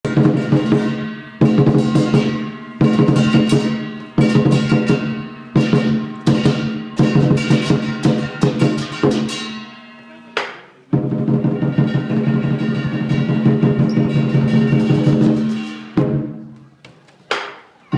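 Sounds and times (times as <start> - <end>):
large drum beating: 0.0 - 10.0, 10.9 - 16.6
crashing cymbals: 0.1 - 10.2, 10.8 - 16.4.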